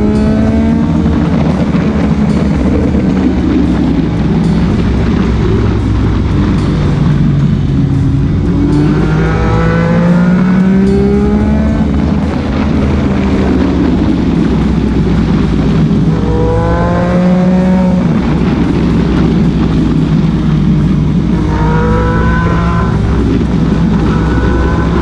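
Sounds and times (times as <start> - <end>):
motorcycle engine accelerating: 0.0 - 25.0
steady low engine rumble: 0.0 - 25.0.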